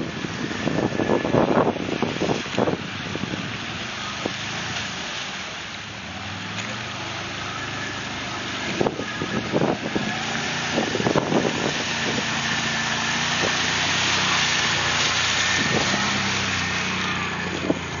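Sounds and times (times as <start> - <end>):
atv engine running: 0.0 - 18.0
tyres splashing water: 0.0 - 18.0.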